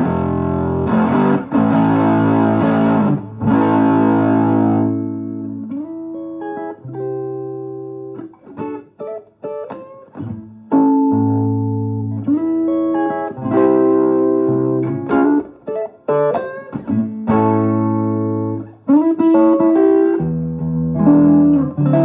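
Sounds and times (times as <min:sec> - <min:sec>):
guitar chords and picked notes: 0:00.0 - 0:22.0.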